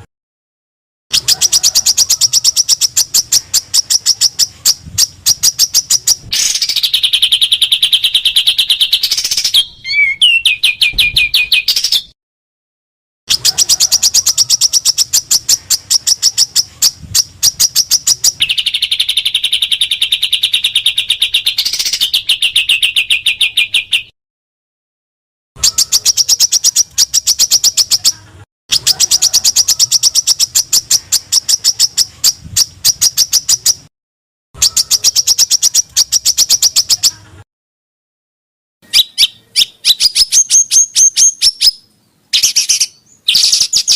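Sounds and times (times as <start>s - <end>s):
high bird trill: 1.1s - 12.2s, 13.3s - 24.1s, 25.6s - 33.9s, 34.6s - 37.3s, 38.8s - 43.9s.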